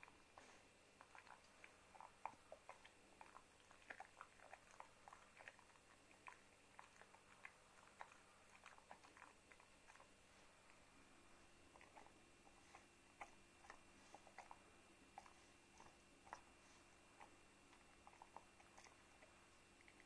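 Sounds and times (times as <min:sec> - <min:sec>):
dog chewing: 0:00.0 - 0:10.8, 0:11.6 - 0:20.0.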